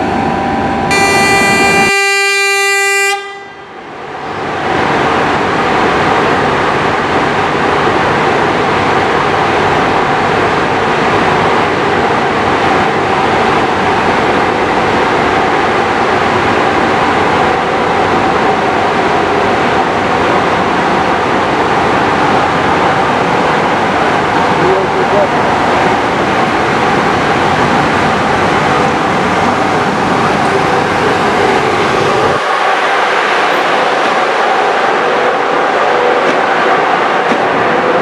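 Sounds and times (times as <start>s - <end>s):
train wheels on rails: 3.9s - 38.0s.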